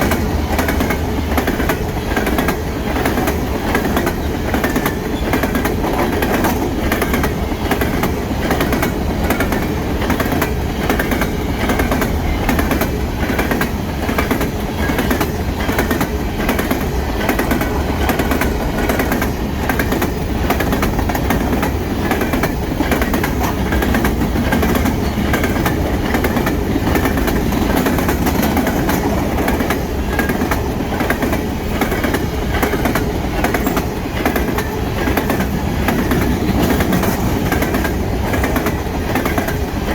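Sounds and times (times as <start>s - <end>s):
freight train rumble: 0.0s - 39.9s
train wheels clicking over rail joints: 0.0s - 39.9s.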